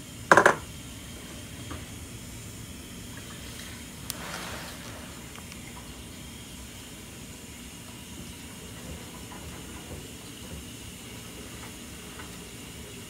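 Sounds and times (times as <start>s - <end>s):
kitchen background rumble and hiss: 0.0s - 13.0s.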